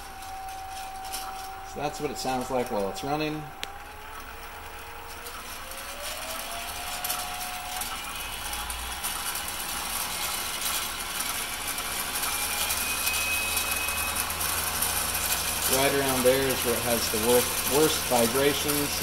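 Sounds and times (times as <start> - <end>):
metal lathe whine: 0.0 - 19.0.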